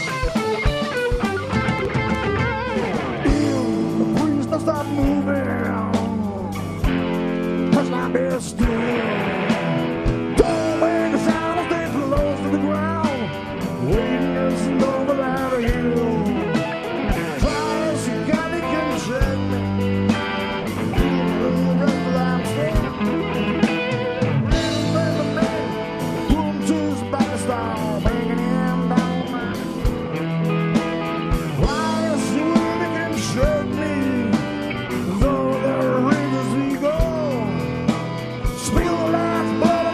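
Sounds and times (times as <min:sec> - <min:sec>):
bass guitar: 0:00.0 - 0:39.9
bending sliding guitar lead: 0:00.0 - 0:39.9
electric guitar: 0:00.0 - 0:39.9.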